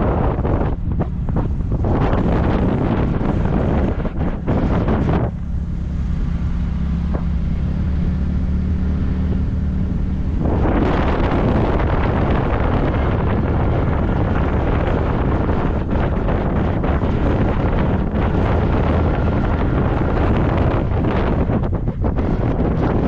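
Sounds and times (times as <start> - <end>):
motorcycle engine hum: 0.0 - 23.0
wind buffeting microphone: 0.0 - 23.0.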